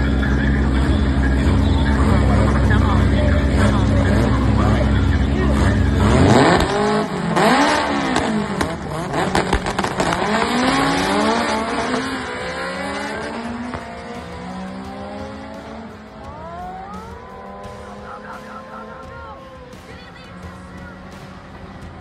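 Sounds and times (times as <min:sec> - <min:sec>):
race car engines revving: 0:00.0 - 0:22.0
race cars accelerating through gears: 0:00.0 - 0:22.0.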